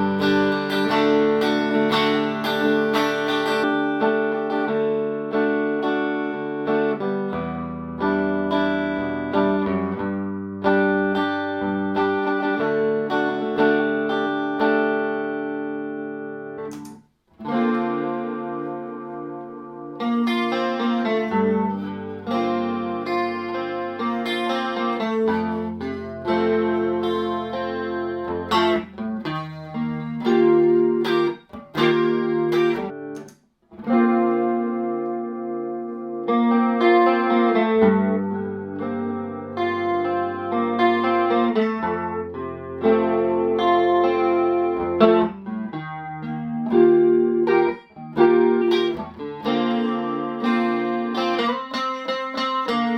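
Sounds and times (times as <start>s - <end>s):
clean electric guitar chords: 0.0s - 52.9s.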